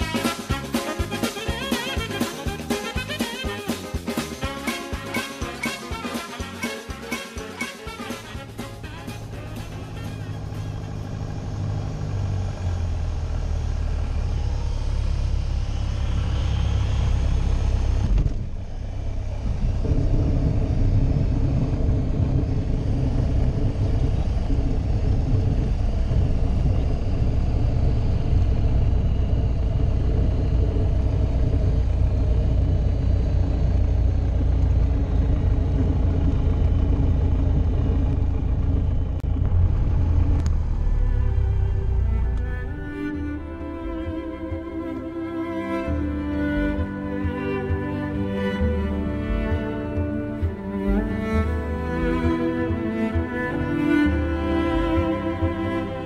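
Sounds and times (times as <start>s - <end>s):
airplane engine and propeller droning: 0.0s - 56.0s.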